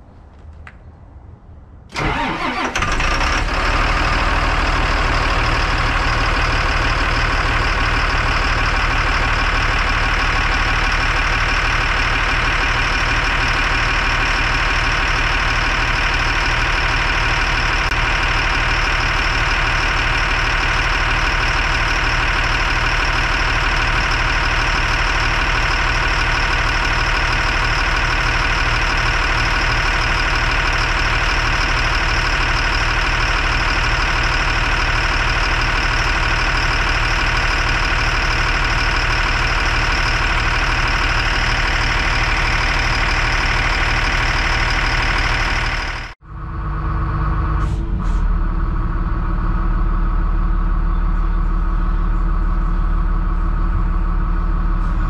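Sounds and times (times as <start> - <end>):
diesel engine cranking and idling: 1.9 - 55.0.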